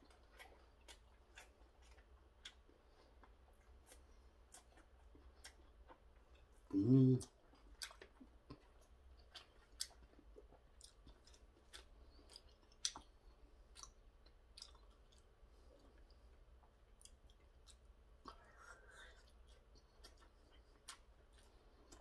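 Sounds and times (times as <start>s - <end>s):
faint chewing: 0.0s - 22.0s.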